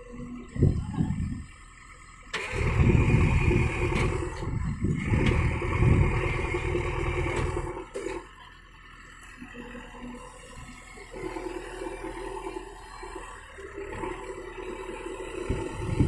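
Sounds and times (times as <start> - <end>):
diesel engine working under load: 0.0 - 16.0.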